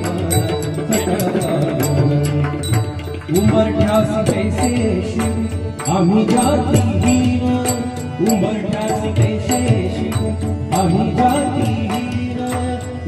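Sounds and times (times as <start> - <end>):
harmonium drone: 0.0 - 13.0
man singing: 0.0 - 13.0
tabla and barrel drum beat: 0.0 - 13.0.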